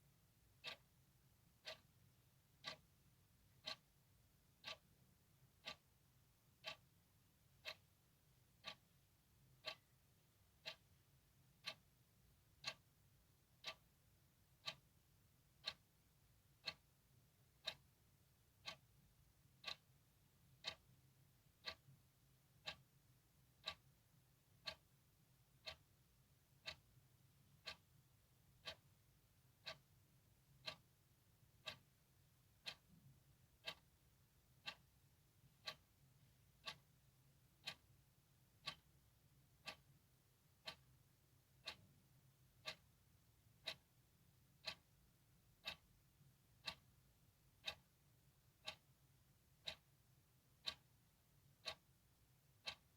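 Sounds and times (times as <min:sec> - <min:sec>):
clock ticking: 0:00.5 - 0:52.9.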